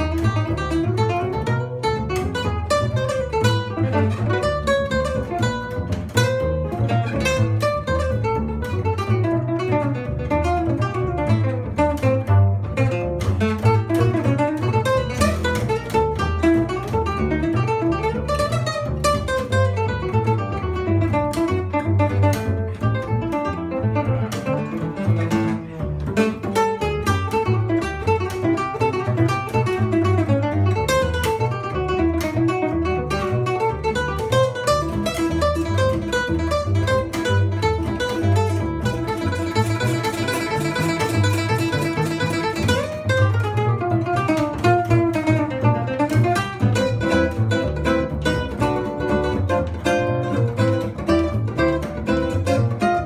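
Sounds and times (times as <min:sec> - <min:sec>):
acoustic guitar fingerpicking: 0:00.0 - 0:53.0
double bass plucked notes: 0:00.0 - 0:53.0.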